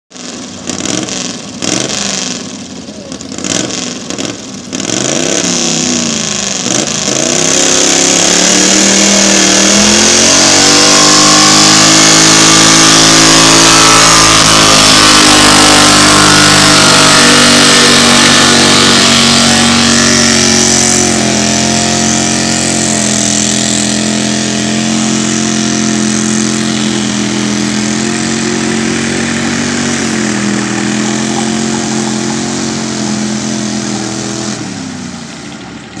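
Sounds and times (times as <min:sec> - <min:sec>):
tractor engine running flat out: 0:00.1 - 0:36.0.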